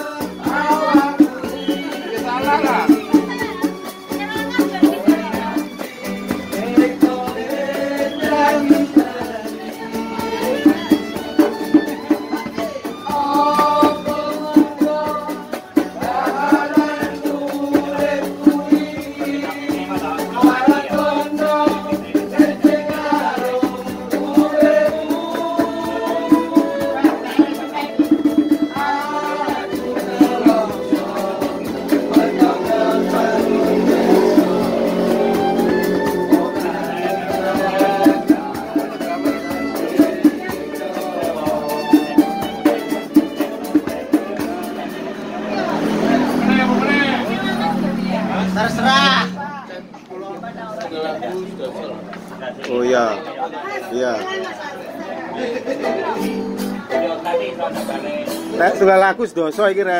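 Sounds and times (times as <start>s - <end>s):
person singing: 0.0s - 48.3s
sharp percussion strokes: 0.1s - 50.0s.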